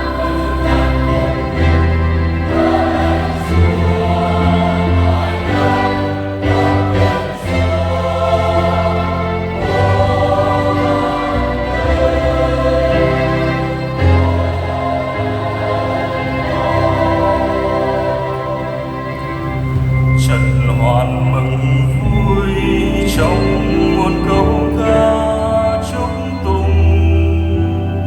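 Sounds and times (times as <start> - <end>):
choir singing a hymn: 0.0 - 28.0
sustained low notes: 0.0 - 28.0.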